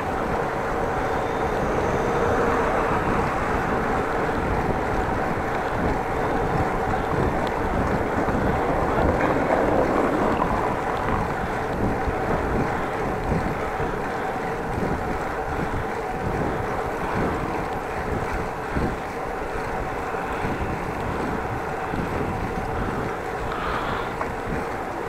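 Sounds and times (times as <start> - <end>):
bicycle road rolling noise: 0.0 - 25.0
wind rushing over microphone: 0.0 - 25.0.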